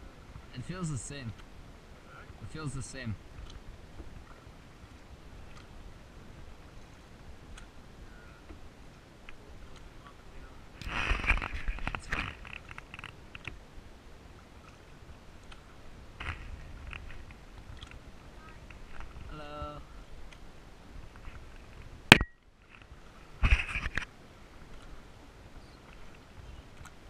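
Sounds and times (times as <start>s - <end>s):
water splashing: 0.3s - 25.2s
paddle swishing and dripping: 1.1s - 27.0s.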